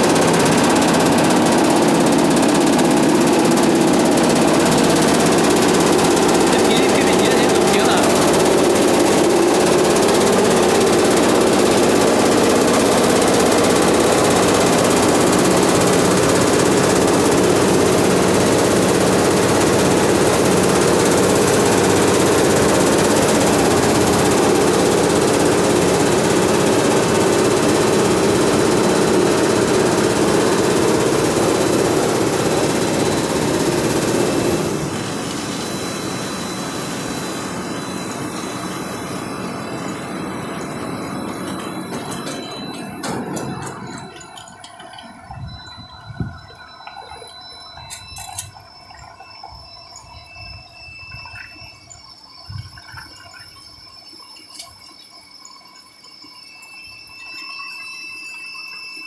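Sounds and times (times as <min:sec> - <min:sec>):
vibrating screen mechanical rattle: 0:00.0 - 0:59.0.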